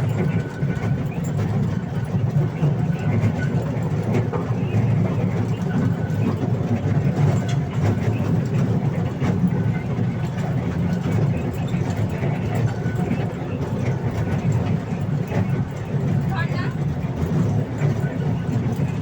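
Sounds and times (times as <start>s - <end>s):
toy train low rumble: 0.0s - 19.0s.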